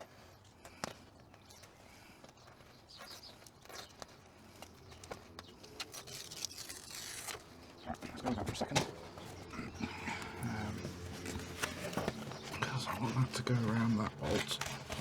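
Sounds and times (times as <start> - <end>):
insulation sheet rustling and crinkling: 2.6 - 15.0.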